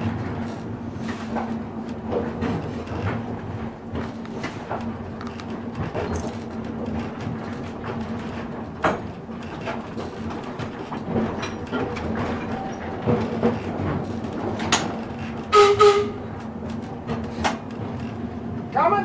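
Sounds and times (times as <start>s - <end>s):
streetcar hum and rolling noise: 0.0s - 19.0s
wheel clicks and knocks: 1.4s - 18.4s.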